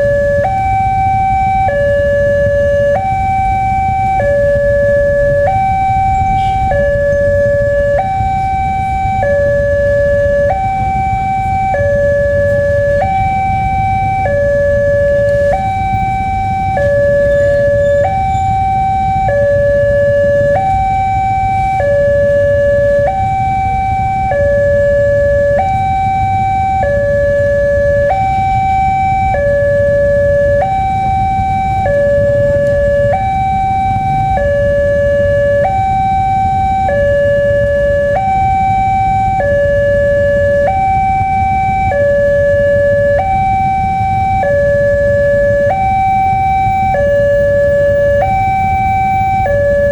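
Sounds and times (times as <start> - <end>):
level crossing two-tone alarm: 0.0 - 49.9.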